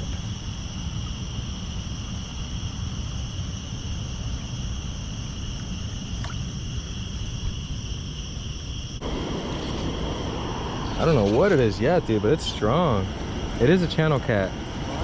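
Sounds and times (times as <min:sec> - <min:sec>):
crickets chirping: 0:00.0 - 0:15.0
low steady rumble: 0:00.0 - 0:15.0.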